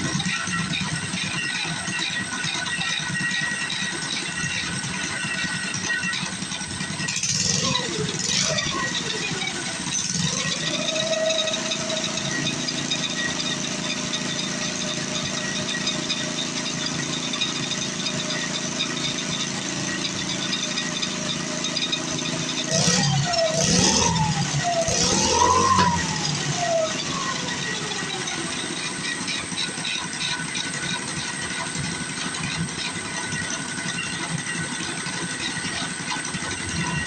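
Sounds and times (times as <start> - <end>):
small gas engine idling and revving: 0.0 - 37.0.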